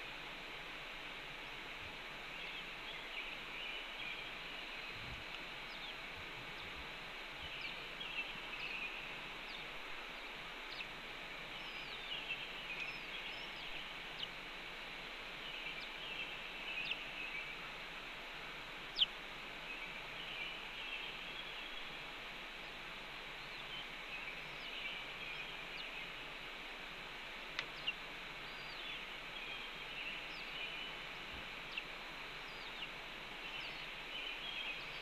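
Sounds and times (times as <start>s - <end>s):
outdoor hiss: 0.0s - 35.0s
birds chirping: 2.2s - 35.0s.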